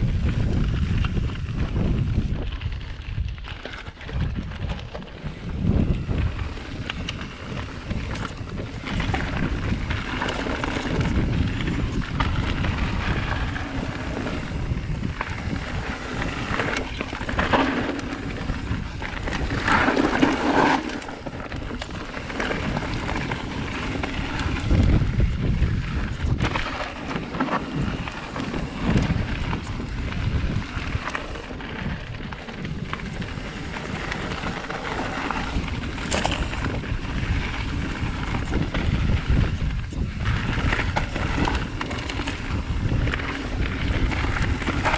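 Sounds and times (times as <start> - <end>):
tyres rolling over gravel: 0.0 - 44.9
wind noise on microphone: 0.0 - 44.9.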